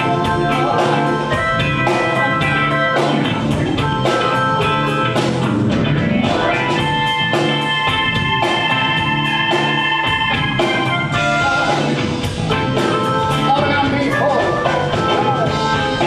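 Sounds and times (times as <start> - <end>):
drum kit steady beat: 0.0 - 16.0
guitar: 0.0 - 16.0.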